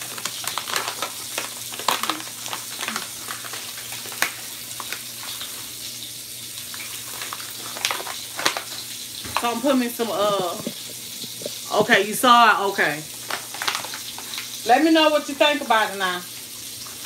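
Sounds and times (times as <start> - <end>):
sausages sizzling in a skillet: 0.0 - 17.0.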